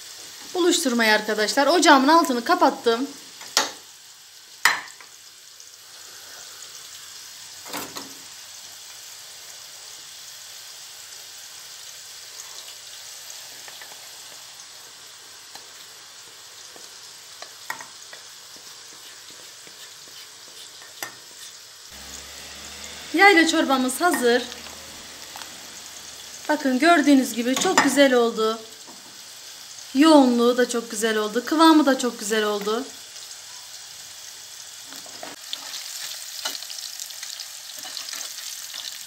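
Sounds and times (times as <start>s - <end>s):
hot oil sizzling in a pan: 0.0s - 39.0s.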